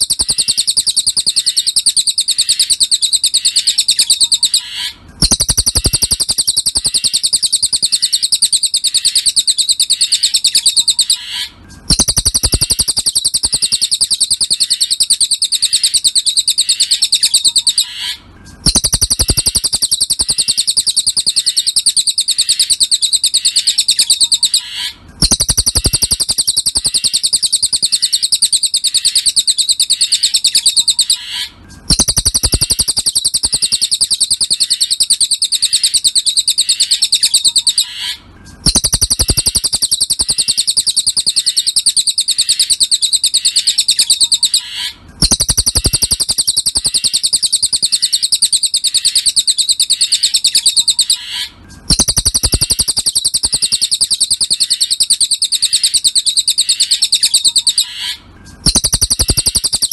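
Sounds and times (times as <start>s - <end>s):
bird song rapid chirps: 0.0s - 59.9s.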